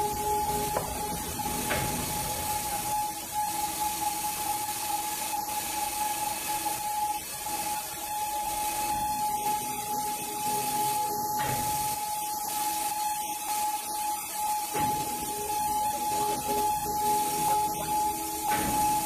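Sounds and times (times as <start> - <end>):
heavy machinery whine: 0.0 - 19.0.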